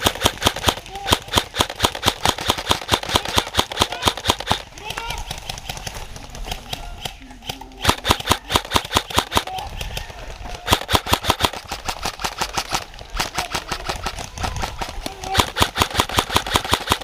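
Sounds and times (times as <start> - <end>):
airsoft guns firing: 0.0 - 17.0.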